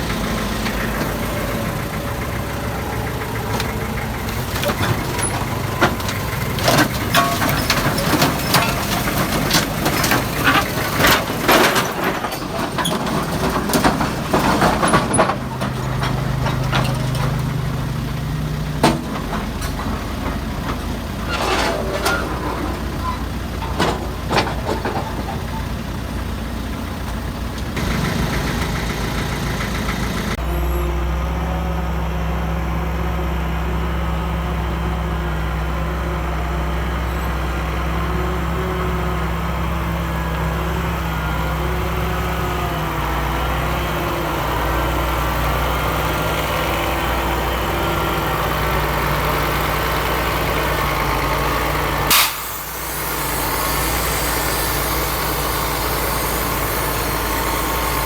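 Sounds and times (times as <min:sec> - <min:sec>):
diesel engine of heavy machinery: 0:00.0 - 0:58.0.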